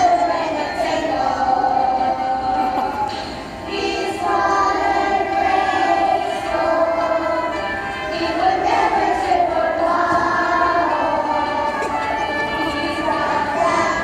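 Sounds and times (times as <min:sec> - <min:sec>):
backing music: 0:00.0 - 0:14.0
children singing in unison: 0:00.0 - 0:14.0.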